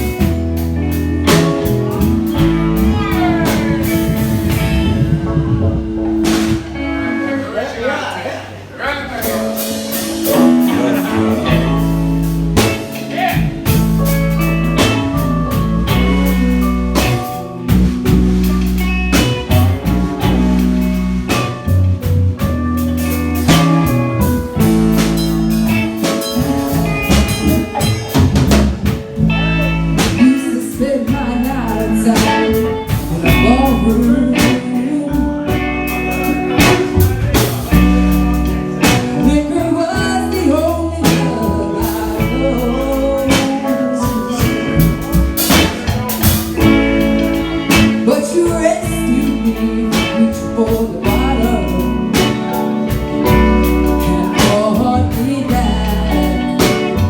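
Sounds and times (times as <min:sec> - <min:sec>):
deep bass line: 0:00.0 - 0:07.5, 0:09.2 - 0:57.0
live reggae band: 0:00.0 - 0:57.0.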